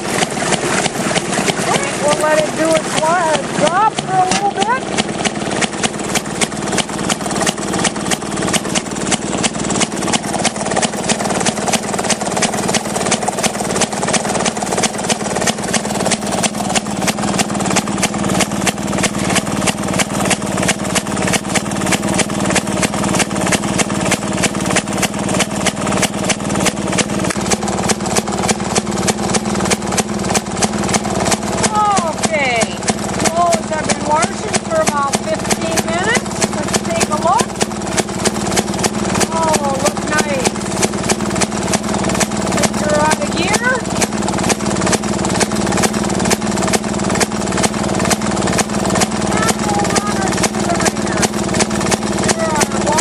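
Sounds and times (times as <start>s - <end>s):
two-stroke engine popping: 0.0s - 53.0s
washing machine agitating: 0.0s - 53.0s.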